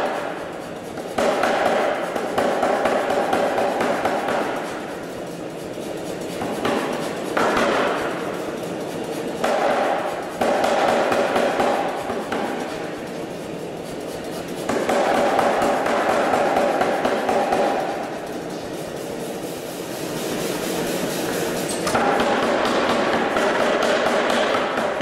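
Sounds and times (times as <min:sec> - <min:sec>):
air hammer striking hot steel: 0:00.0 - 0:05.0, 0:06.3 - 0:18.7, 0:21.3 - 0:25.0.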